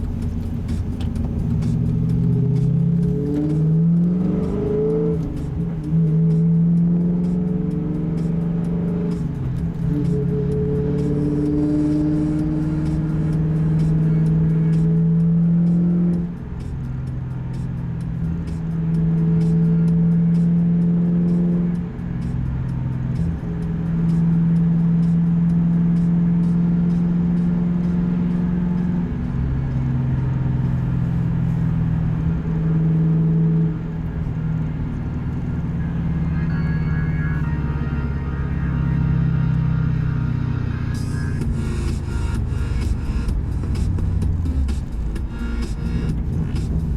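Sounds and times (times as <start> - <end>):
deep car exhaust drone: 0.0 - 46.9.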